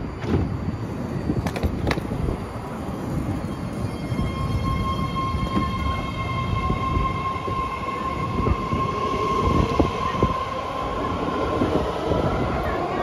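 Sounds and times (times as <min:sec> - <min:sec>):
train high whine: 0:00.0 - 0:13.0
wheels rumbling on rail: 0:00.0 - 0:13.0.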